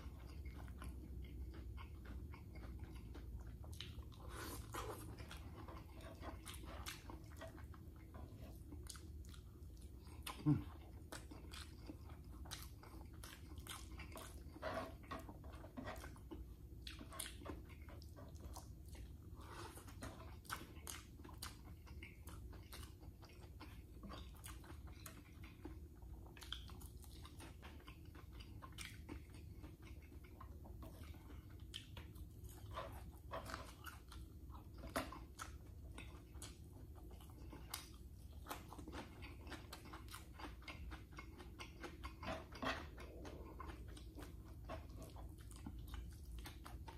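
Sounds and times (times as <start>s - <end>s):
low steady hum: 0.0s - 46.9s
person chewing food: 0.0s - 46.9s.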